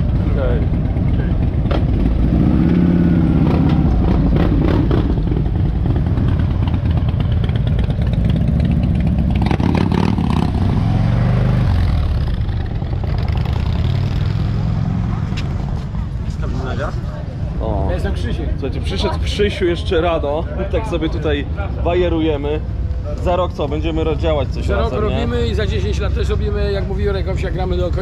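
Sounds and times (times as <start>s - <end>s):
motorcycle engines accelerating: 0.0s - 28.0s.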